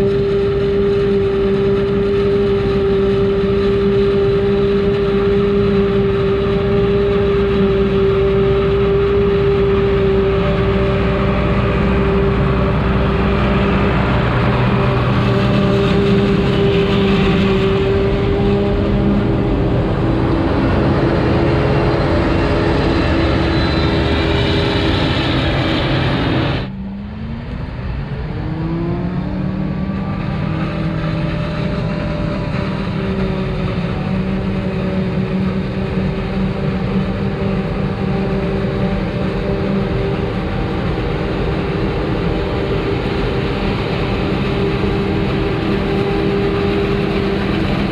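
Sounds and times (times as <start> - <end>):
farm machinery engines droning: 0.0 - 47.9.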